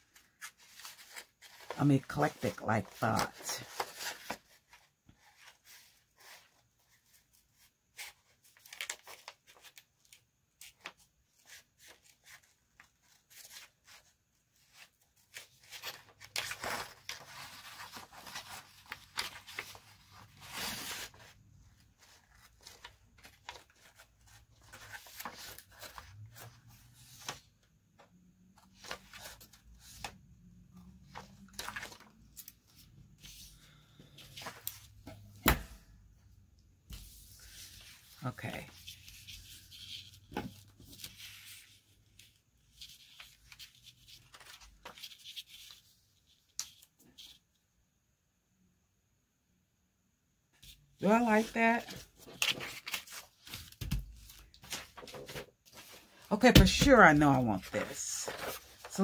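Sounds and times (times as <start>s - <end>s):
paper rustling and crinkling: 0.0s - 30.2s, 30.9s - 35.2s, 36.9s - 47.4s, 50.6s - 59.0s.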